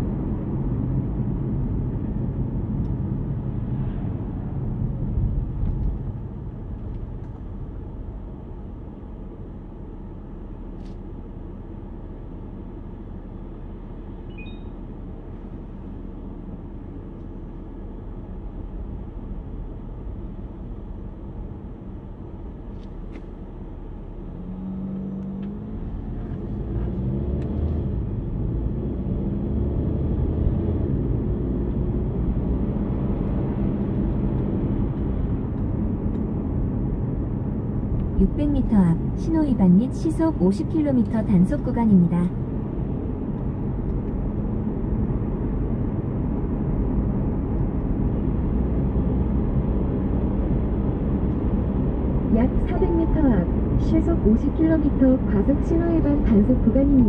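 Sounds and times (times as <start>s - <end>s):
car road noise rumble: 0.0s - 57.0s.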